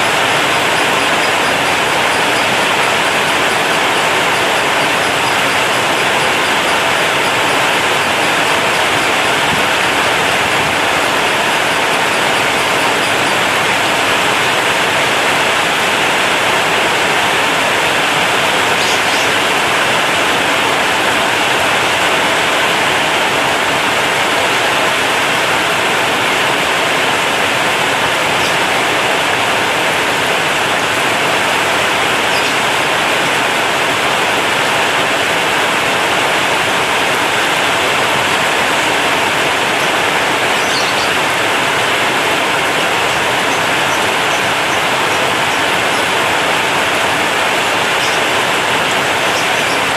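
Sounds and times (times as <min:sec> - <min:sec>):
heavy rain on a metal roof: 0:00.0 - 0:49.9.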